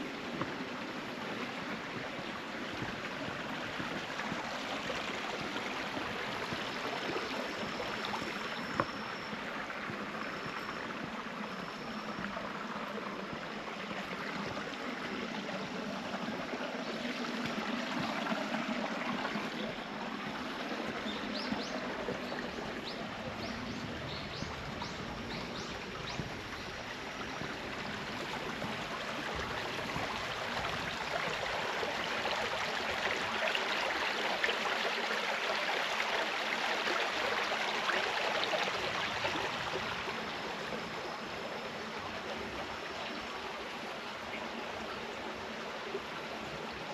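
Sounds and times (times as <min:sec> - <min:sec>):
stream babbling over rocks: 0:00.0 - 0:46.9.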